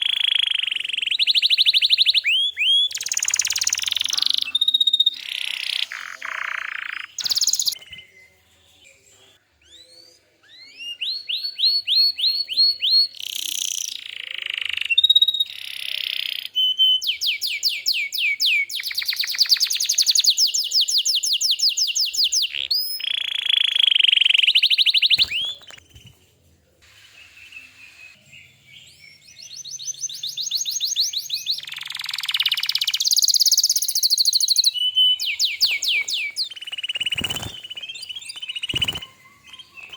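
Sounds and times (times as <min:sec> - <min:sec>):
canary singing trills: 0:00.0 - 0:26.2, 0:27.2 - 0:39.9.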